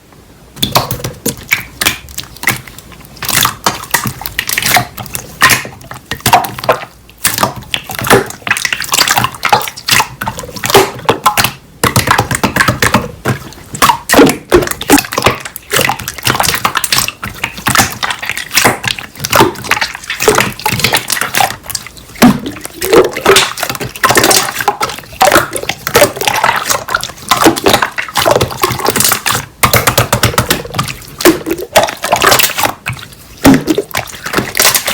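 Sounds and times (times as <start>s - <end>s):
slime squished by hands: 0.6s - 34.9s.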